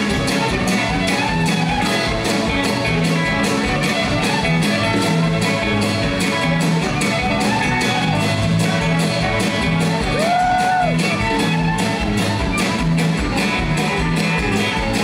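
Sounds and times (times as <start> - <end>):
electric bass guitar: 0.0 - 15.0
fiddle lead: 0.0 - 15.0
steady drum beat: 0.0 - 15.0.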